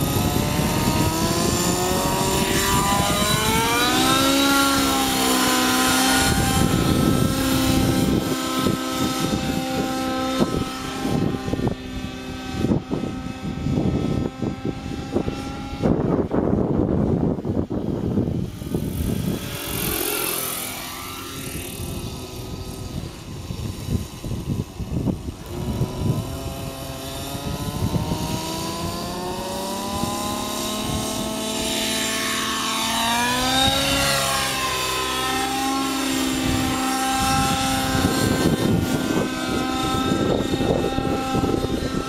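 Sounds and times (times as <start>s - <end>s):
model helicopter engine and rotor: 0.0s - 42.0s.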